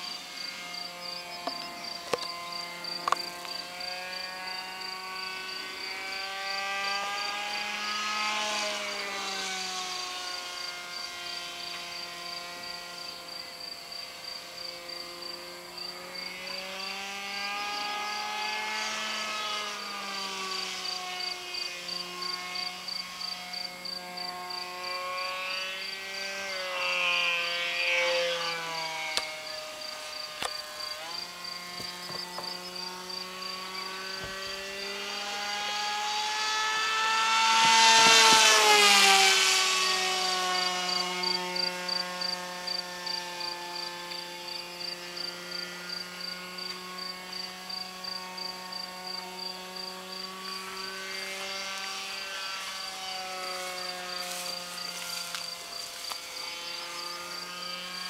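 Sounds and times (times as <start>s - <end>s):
model jet motor droning: 0.0s - 58.0s.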